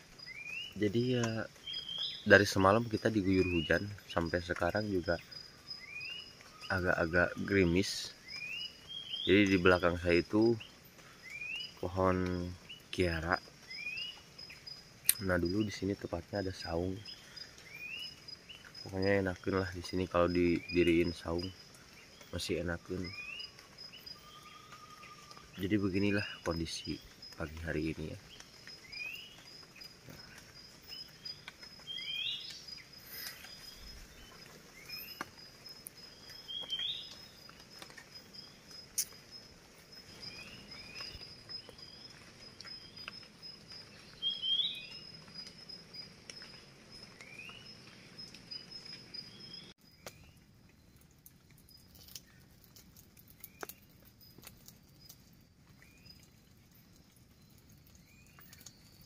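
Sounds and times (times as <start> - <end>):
drizzle drops pattering: 0.0 - 44.3, 49.8 - 59.0
insect trill: 0.0 - 59.0
bird chirping: 0.1 - 59.0.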